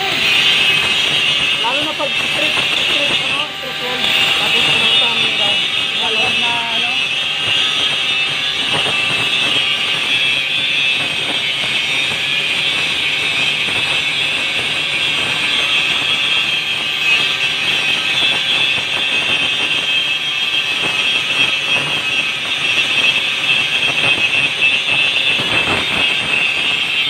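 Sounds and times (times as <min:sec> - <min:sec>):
angle grinder grinding steel: 0:00.0 - 0:27.0.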